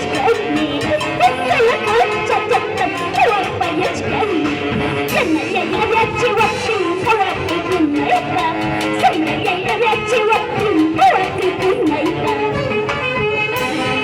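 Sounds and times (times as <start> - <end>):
andean folk band playing: 0.0 - 14.0.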